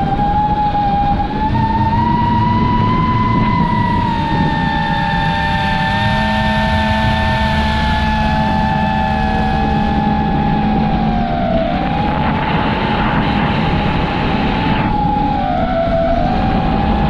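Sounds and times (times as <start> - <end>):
drone motors whining: 0.0 - 17.0
wind on microphone: 0.0 - 17.0.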